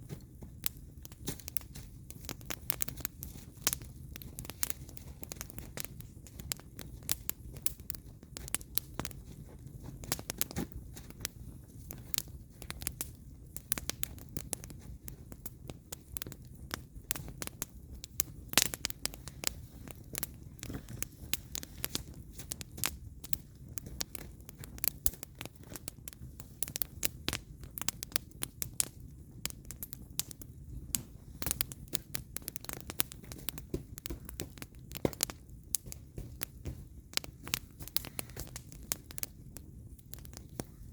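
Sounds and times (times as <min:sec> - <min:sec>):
campfire crackling and popping: 0:00.0 - 0:40.9
flames rumbling: 0:00.0 - 0:40.9.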